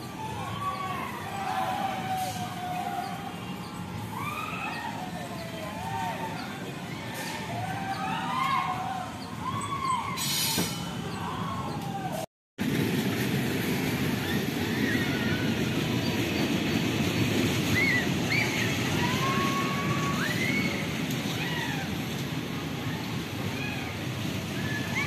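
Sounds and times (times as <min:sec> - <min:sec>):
ride mechanical rumble: 0:00.0 - 0:25.0.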